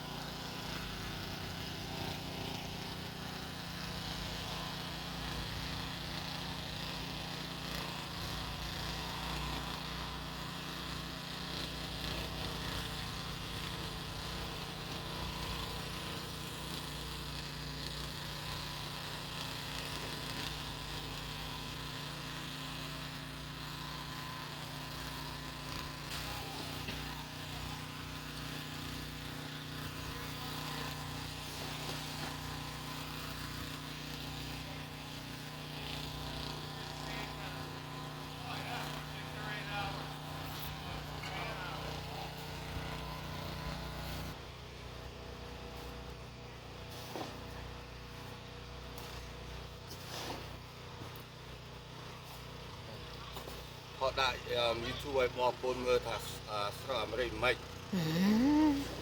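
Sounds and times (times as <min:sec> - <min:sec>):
snow blower engine droning: 0:00.0 - 0:59.0.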